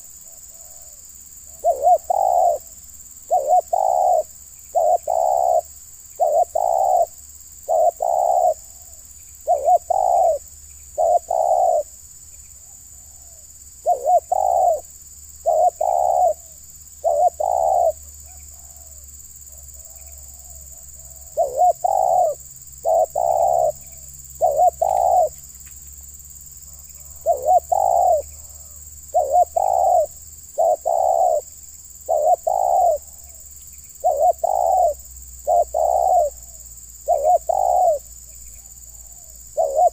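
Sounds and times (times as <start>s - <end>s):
dove cooing: 0.0s - 12.0s, 12.6s - 25.4s, 26.7s - 33.4s, 34.0s - 39.9s.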